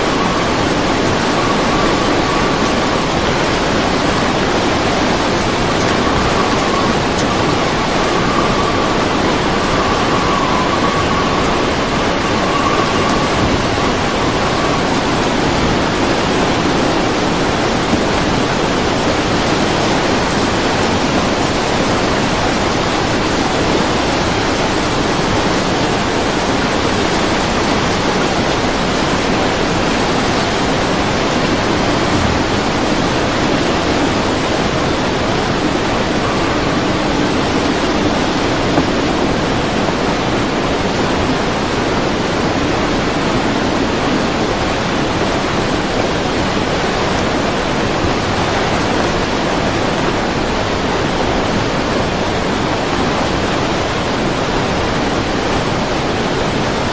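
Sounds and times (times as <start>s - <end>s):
floodwater rushing over concrete: 0.0s - 56.9s.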